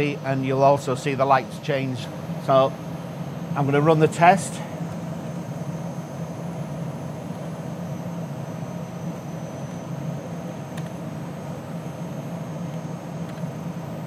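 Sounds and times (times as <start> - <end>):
computer and disk drive hum: 0.0 - 14.0.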